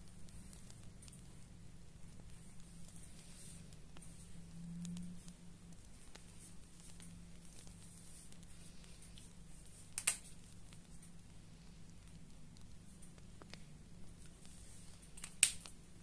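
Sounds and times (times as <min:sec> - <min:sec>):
faint ticks of handling: 0:00.0 - 0:16.0
low steady hum: 0:00.0 - 0:16.0.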